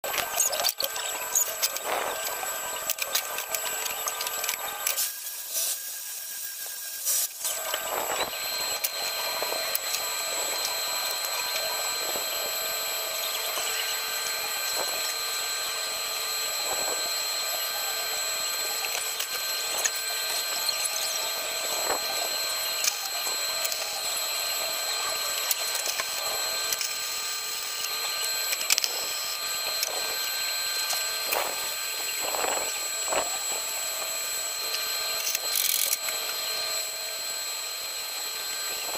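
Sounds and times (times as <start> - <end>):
high-pitched machine whine: 0.0 - 38.9.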